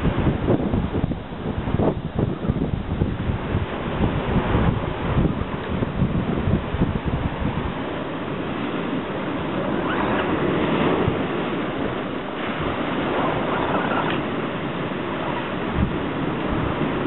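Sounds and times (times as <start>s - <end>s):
surf rushing on beach: 0.0s - 17.0s
wind on microphone: 0.0s - 17.0s.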